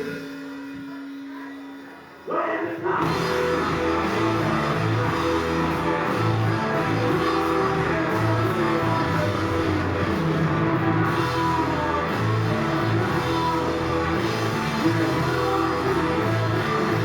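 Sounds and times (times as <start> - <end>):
bass notes: 3.0 - 17.0
drum kit: 3.0 - 17.0
electric guitar: 3.0 - 17.0.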